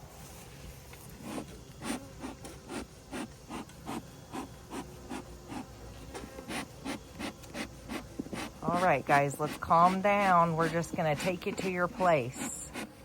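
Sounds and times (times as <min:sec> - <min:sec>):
honeybees buzzing: 0:01.1 - 0:13.0.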